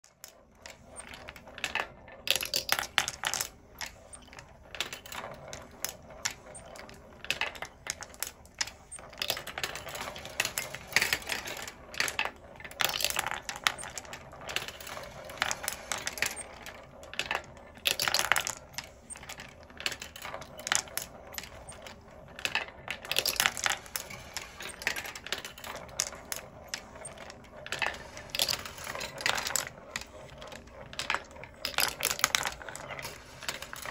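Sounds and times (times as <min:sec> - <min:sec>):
glass marbles rolling on wooden tracks: 0:00.1 - 0:33.9
marbles clacking: 0:00.2 - 0:33.9.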